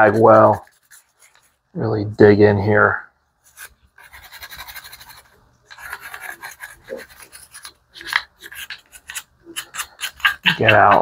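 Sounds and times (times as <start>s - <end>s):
stiff brush scrubbing plastic: 0.0s - 1.6s, 3.5s - 11.0s.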